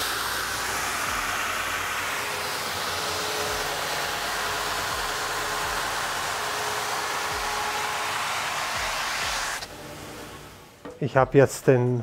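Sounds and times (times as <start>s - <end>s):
grinding machine grinding: 0.0s - 10.5s
steady hum: 0.0s - 11.0s.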